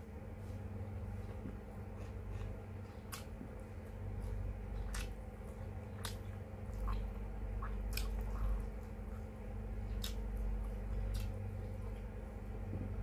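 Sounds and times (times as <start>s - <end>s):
steady low hum: 0.0s - 13.0s
wet chewing and lip smacks: 1.4s - 12.1s.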